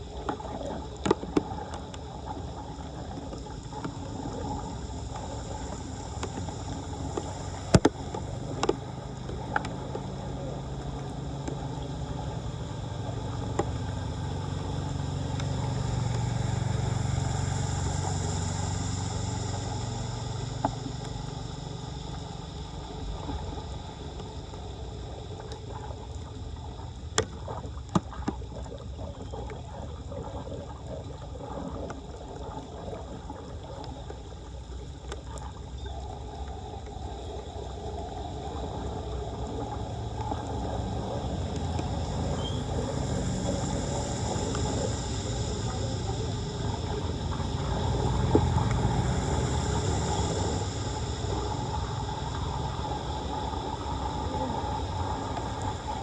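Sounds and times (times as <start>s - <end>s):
floodwater rushing and gurgling: 0.0s - 56.0s
low rumble: 0.0s - 56.0s.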